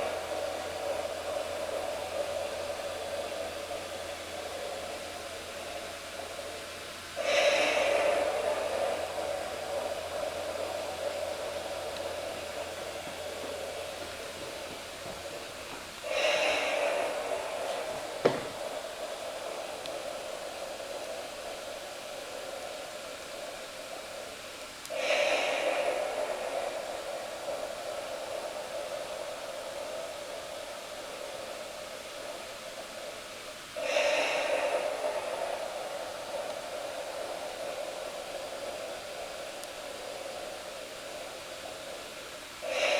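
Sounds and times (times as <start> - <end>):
breathy hiss: 0.0 - 42.9
electric blower fan: 0.0 - 42.9.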